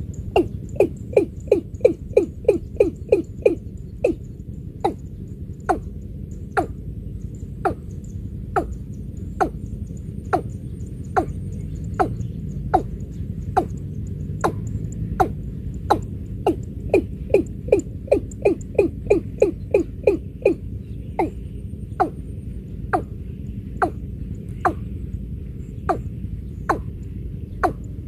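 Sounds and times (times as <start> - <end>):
bird calling with hollow notes: 0.0 - 28.0.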